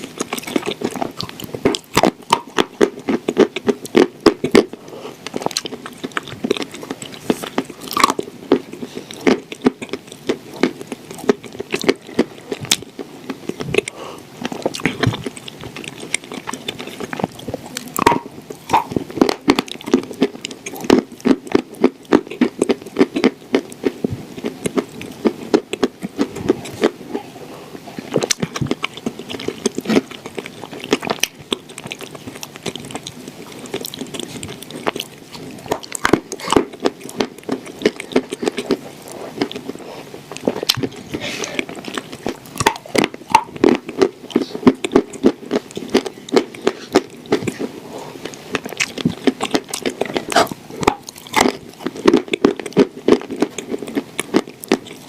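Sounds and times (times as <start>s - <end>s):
crunching and chewing dry clay: 0.0s - 55.0s.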